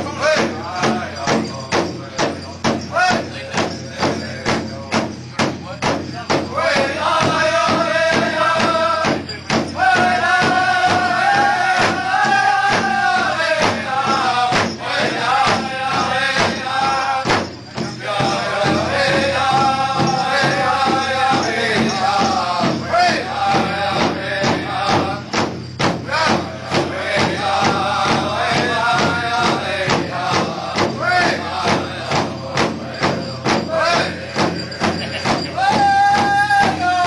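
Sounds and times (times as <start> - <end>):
group singing high-pitched: 0.0 - 4.8, 6.3 - 37.0
large drum beating: 0.0 - 37.0.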